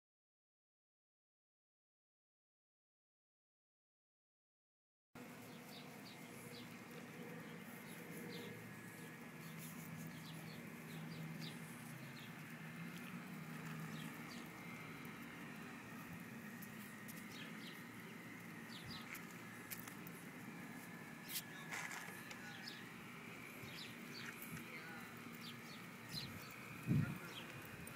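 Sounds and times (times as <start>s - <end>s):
steady low hum: 5.2s - 27.9s.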